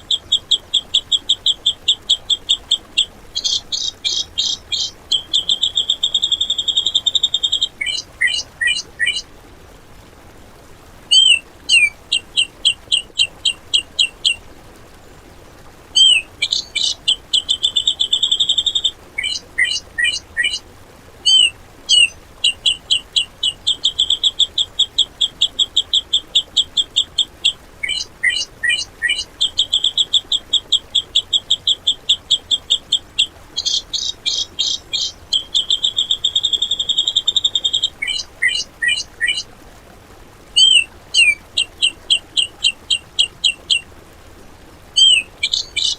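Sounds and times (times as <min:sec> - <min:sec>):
bulbul singing rapid trills: 0:00.0 - 0:09.3, 0:11.1 - 0:14.4, 0:16.0 - 0:20.6, 0:21.2 - 0:39.5, 0:40.6 - 0:43.9, 0:45.0 - 0:45.9.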